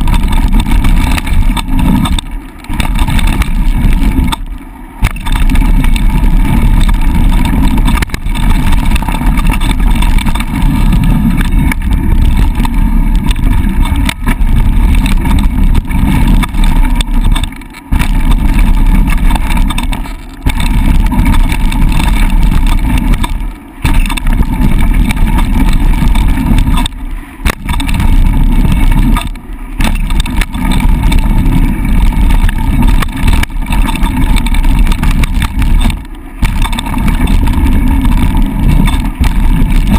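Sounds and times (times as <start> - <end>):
bike rattles and knocks: 0.0 - 39.9
tyres rumbling on dirt: 0.0 - 39.9
wind buffeting microphone: 0.0 - 39.9.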